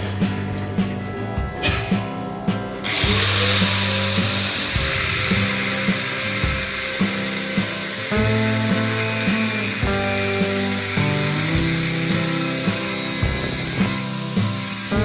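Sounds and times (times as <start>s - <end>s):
background music with beat: 0.0s - 15.0s
power tool spinning: 2.8s - 15.0s.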